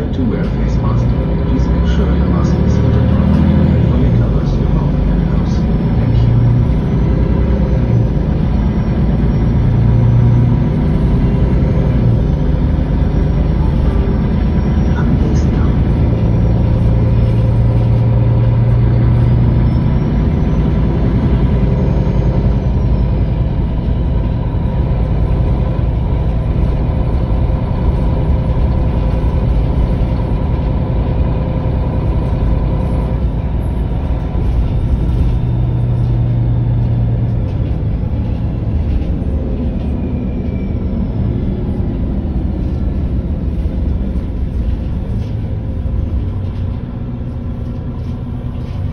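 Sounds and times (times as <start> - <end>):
bus diesel engine running: 0.0 - 48.9
low hum: 0.0 - 48.9.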